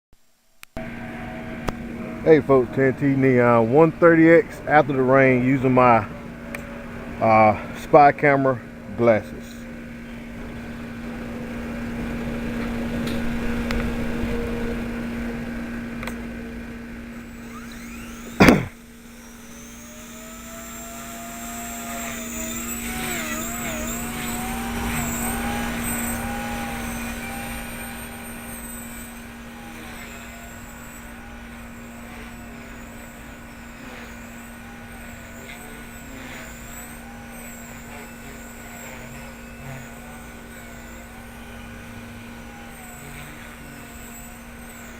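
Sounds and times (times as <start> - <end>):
rc helicopter rotor whine: 0.8 - 44.9.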